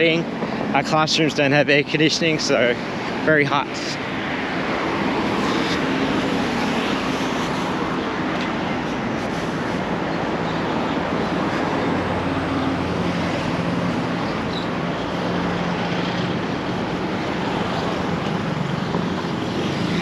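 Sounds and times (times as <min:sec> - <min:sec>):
passing cars and motorbikes: 0:00.0 - 0:20.0.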